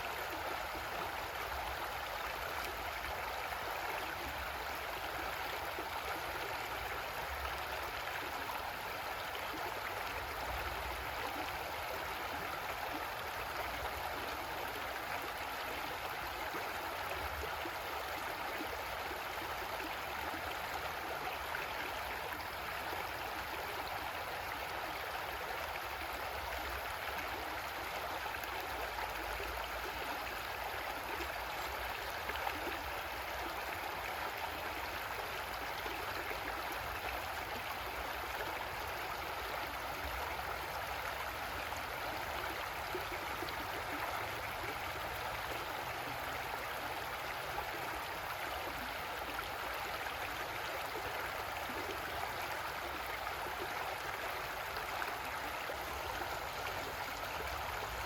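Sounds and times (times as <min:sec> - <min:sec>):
creek water gurgling over rocks: 0:00.0 - 0:58.0.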